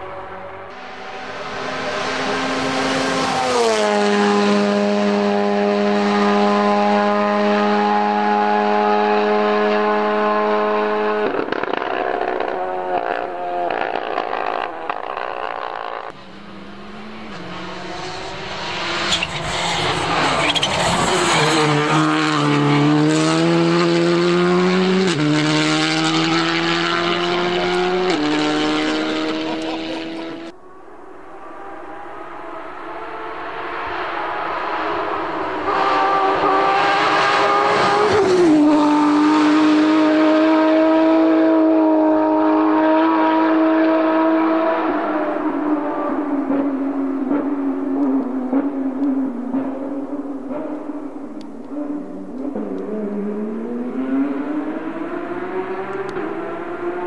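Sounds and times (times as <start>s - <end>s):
car accelerating through gear changes: 0.0s - 57.0s
rally car engine at full throttle: 0.0s - 57.0s.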